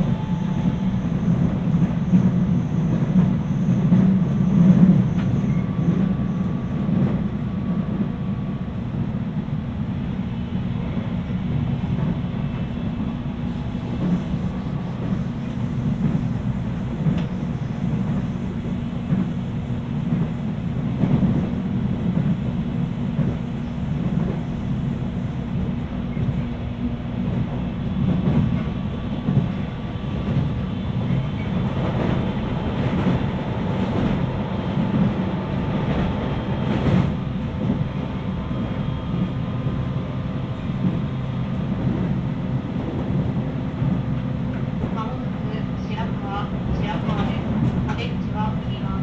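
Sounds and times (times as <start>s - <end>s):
rail joint clacks: 0.0s - 8.2s, 11.6s - 49.0s
train wheels rumbling: 0.0s - 49.0s.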